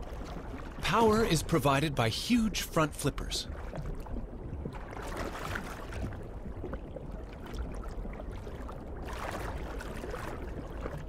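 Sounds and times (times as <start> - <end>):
underwater rumble of moving water: 0.0 - 11.0.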